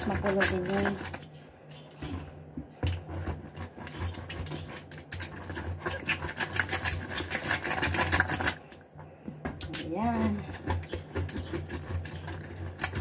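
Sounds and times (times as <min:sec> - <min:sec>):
lemon squishing on juicer: 0:00.0 - 0:13.0.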